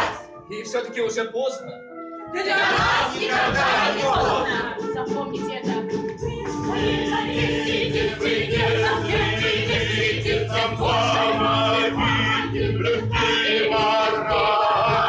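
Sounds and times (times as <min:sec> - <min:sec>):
group of voices singing: 0:00.0 - 0:00.3, 0:02.3 - 0:05.0, 0:05.6 - 0:15.0
musical accompaniment: 0:00.0 - 0:15.0.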